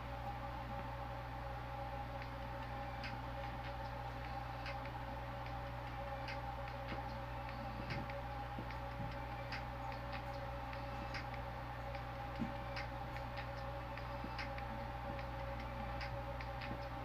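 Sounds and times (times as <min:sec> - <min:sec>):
background hum: 0:00.0 - 0:17.0
faint music from earbuds: 0:00.0 - 0:17.0
ticking hi-hat beat: 0:02.2 - 0:17.0.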